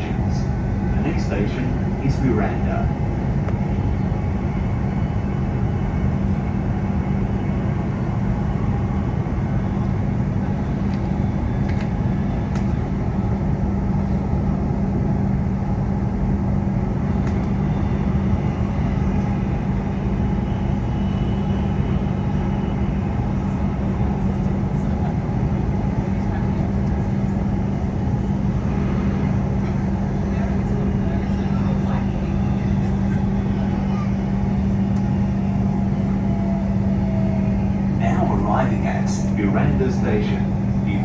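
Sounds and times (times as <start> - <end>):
train cabin hum: 0.0 - 41.0
wheels rumbling on rails: 0.0 - 41.0.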